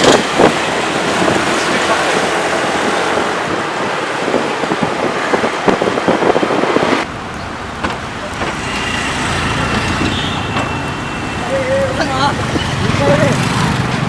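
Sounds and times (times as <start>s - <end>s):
road traffic noise: 0.0s - 14.0s
wind buffeting microphone: 0.0s - 14.0s.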